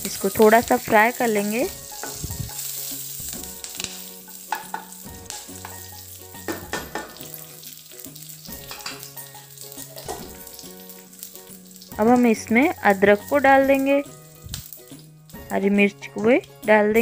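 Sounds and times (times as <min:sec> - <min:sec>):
seeds sizzling in hot oil: 0:00.0 - 0:17.0
soft background music: 0:00.0 - 0:17.0.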